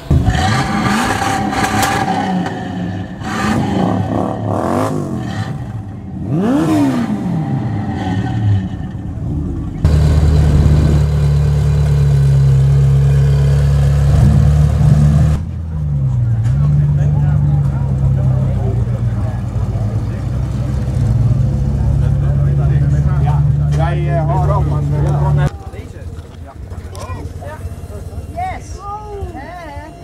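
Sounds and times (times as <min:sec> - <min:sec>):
car engine revving: 0:00.0 - 0:25.5
car engine idling: 0:00.0 - 0:30.0.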